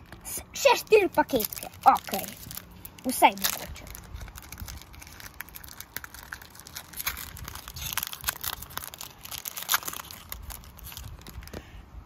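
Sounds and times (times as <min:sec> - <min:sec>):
foil wrapper crinkling and tearing: 0:00.0 - 0:11.7.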